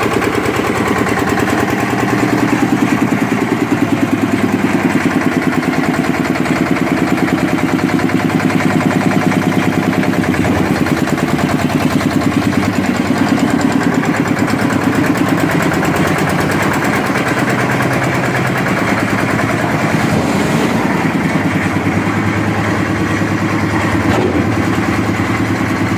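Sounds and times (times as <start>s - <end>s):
concrete mixer engine running: 0.0s - 25.9s.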